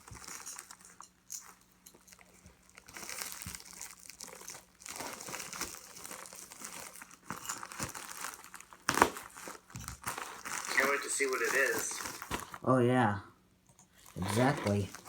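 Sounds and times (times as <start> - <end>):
packaging crinkling and tearing: 0.0 - 12.6, 14.0 - 15.0.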